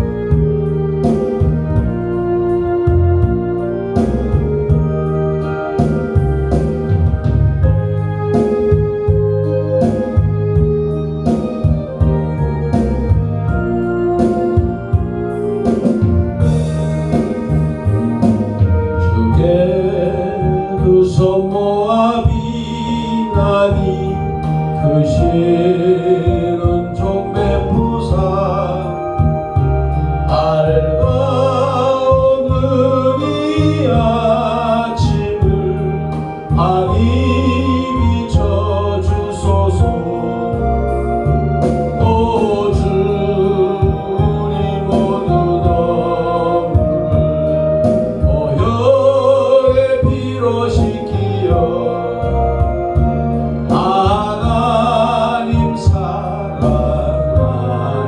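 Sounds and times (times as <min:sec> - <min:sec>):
organ playing chords: 0:00.0 - 0:58.0.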